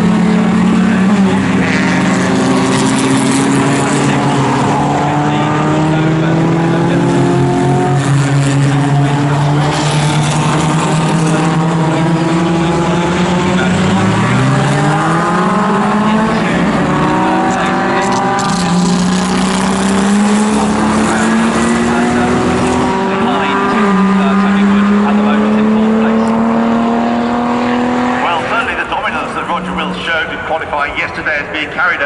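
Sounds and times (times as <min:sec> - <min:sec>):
racing car engines accelerating: 0:00.0 - 0:32.0.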